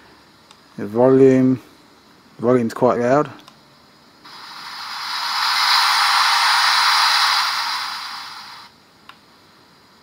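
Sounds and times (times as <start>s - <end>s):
static hiss from speaker: 0.0s - 10.0s.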